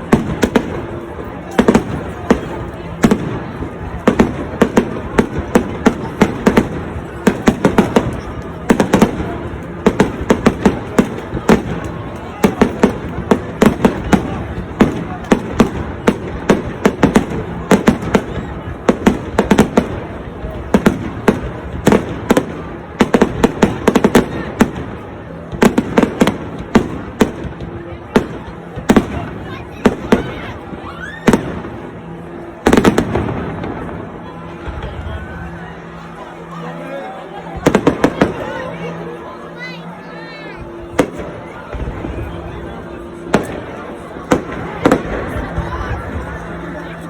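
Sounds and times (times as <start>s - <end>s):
fireworks banging: 0.0s - 36.7s, 37.4s - 47.0s.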